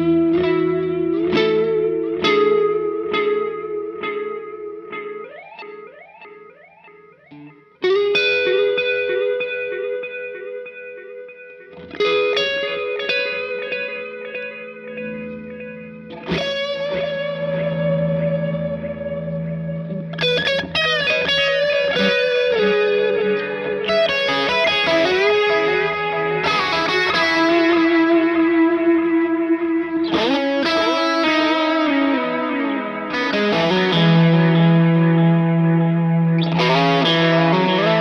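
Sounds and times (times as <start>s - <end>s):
distorted electric guitar: 0.0s - 38.0s.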